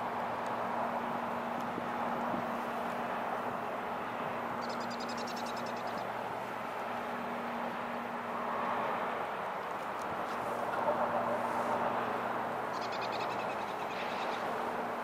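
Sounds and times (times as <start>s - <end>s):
low hum: 0.0s - 15.0s
machine drone and rumble: 0.0s - 15.0s.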